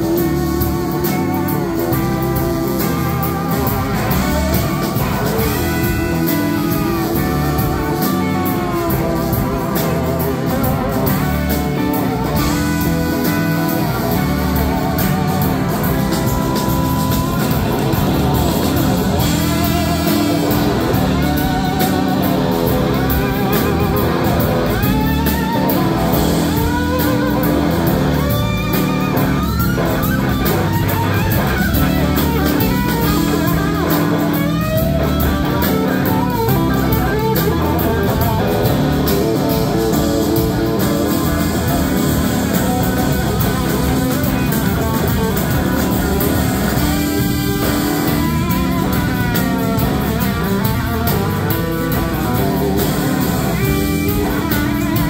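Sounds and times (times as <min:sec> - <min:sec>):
drums: 0:00.0 - 0:55.0
electric guitar lead: 0:00.0 - 0:55.0
held chords: 0:00.0 - 0:55.0.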